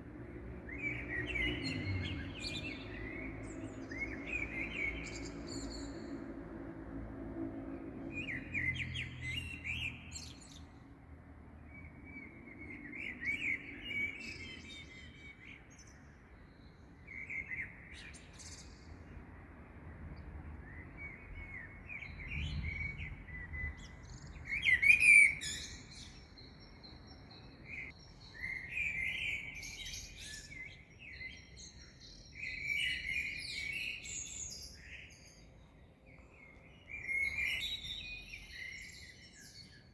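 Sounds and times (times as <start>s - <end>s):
songbirds chirping and singing: 0.0s - 7.0s, 7.8s - 39.9s.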